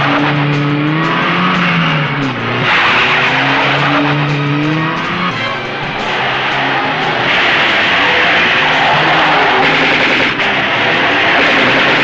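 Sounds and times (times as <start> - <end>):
car engines revving hard: 0.0 - 12.0
tyre screech: 0.0 - 12.0.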